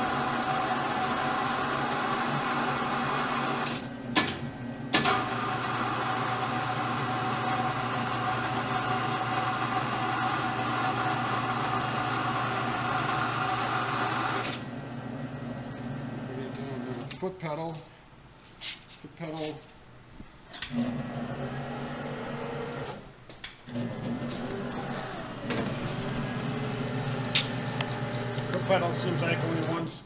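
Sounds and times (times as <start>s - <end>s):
welding positioner motor hum: 0.0s - 17.2s, 20.5s - 30.0s.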